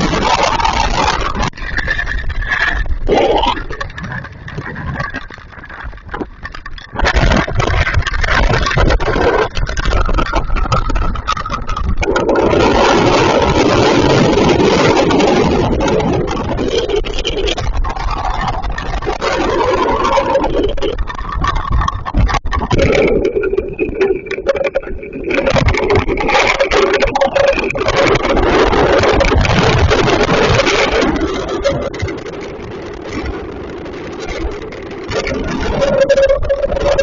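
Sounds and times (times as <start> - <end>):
hailstones clattering: 0.0 - 37.0.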